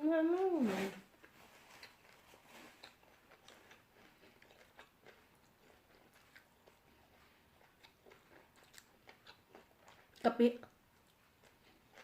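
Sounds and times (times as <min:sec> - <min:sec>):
chewing raw vegetables: 0:01.0 - 0:12.0.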